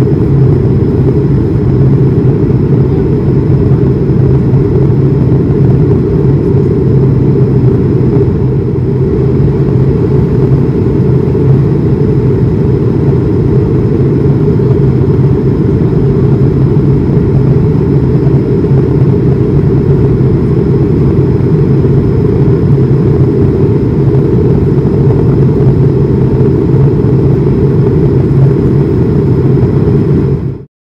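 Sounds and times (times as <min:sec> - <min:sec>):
faint high whine: 0:00.0 - 0:30.7
jet engine rumble: 0:00.0 - 0:30.7.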